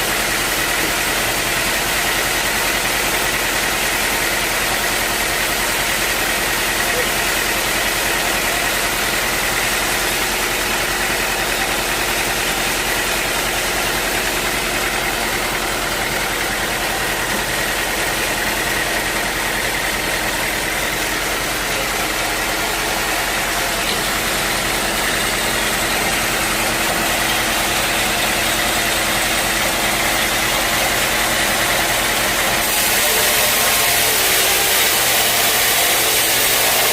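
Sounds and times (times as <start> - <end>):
sawmill machinery drone: 0.0 - 36.9.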